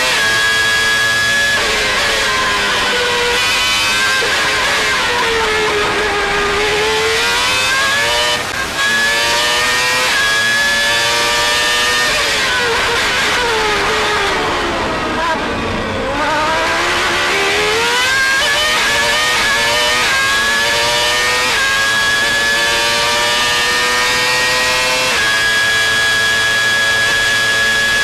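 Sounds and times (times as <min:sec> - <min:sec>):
racing car engine revving: 0:00.0 - 0:28.0.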